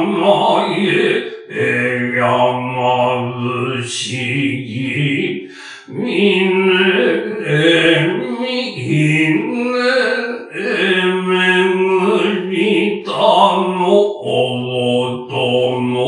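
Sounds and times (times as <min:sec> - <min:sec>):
person chanting long syllables: 0:00.0 - 0:16.0.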